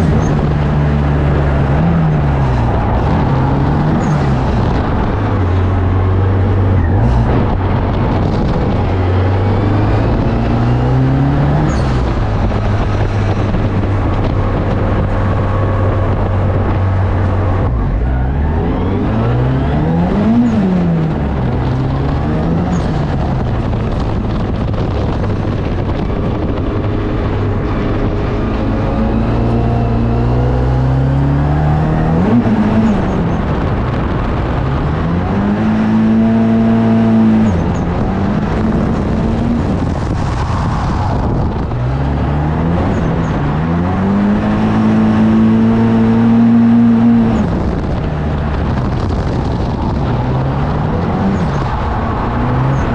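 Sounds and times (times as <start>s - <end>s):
car engine revving: 0.0s - 52.9s
steady engine drone: 0.0s - 52.9s.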